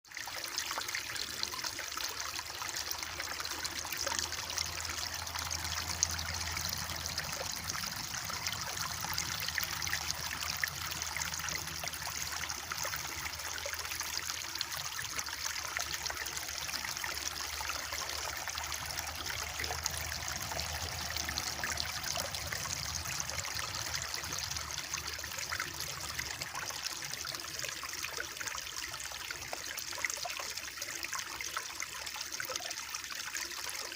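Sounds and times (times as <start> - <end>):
stream flowing over rocks: 0.1 - 33.9.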